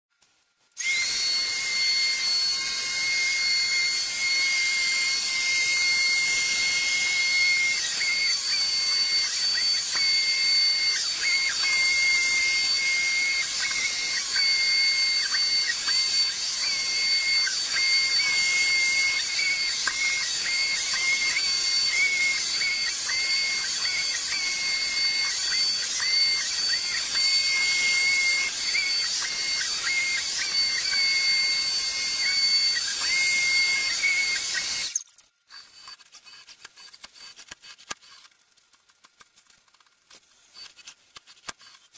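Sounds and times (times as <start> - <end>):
sped-up robot vacuum whine: 0.8 - 35.1.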